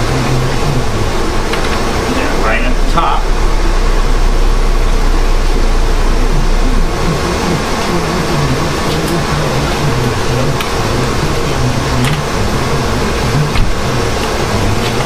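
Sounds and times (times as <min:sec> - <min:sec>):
blower fan air rush: 0:00.0 - 0:15.0.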